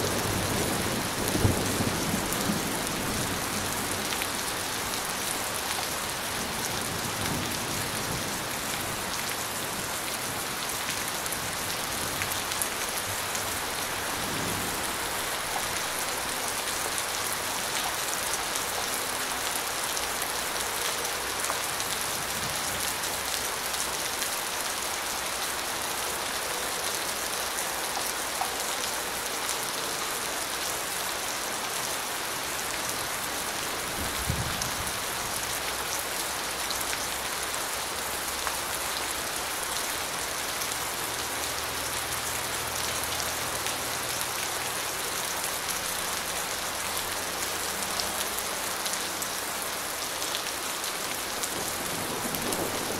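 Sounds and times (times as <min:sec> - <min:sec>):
steady rain patter: 0:00.0 - 0:52.9.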